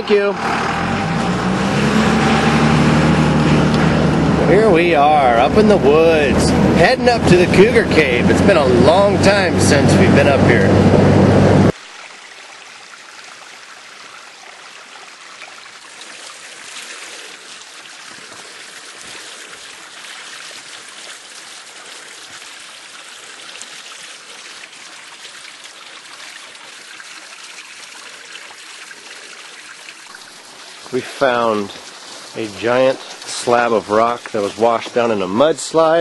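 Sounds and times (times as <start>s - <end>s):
stream flowing and trickling: 0.0s - 10.7s, 11.7s - 36.0s.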